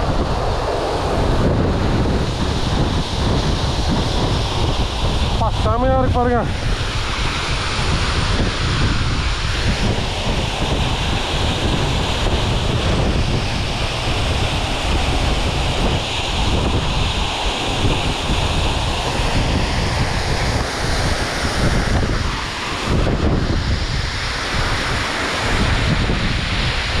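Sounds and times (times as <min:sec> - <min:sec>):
waterfall rushing: 0:00.0 - 0:27.0
wind buffeting microphone: 0:00.0 - 0:27.0.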